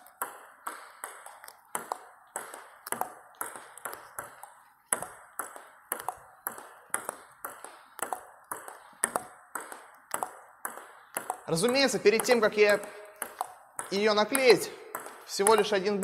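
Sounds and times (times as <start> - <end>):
table tennis ball clicks: 0.0 - 16.0.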